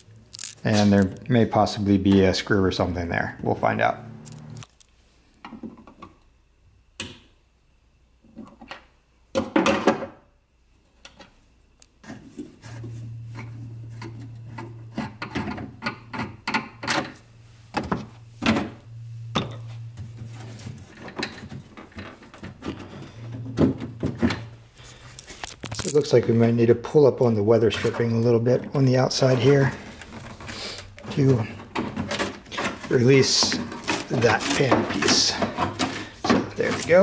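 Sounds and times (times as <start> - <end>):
low steady hum: 0.0 - 9.3, 10.4 - 37.0.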